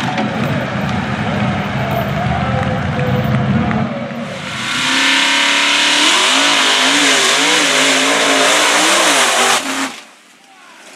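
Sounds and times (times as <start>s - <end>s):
loud rushing noise: 0.0s - 9.9s
truck engine revving hard: 0.0s - 10.0s.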